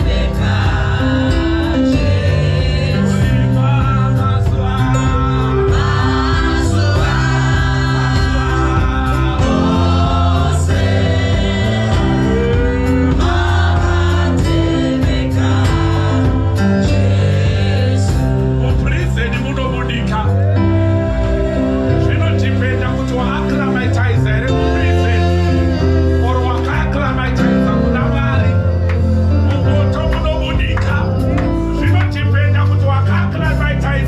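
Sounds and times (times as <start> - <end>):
choir singing gospel music: 0.0 - 34.0.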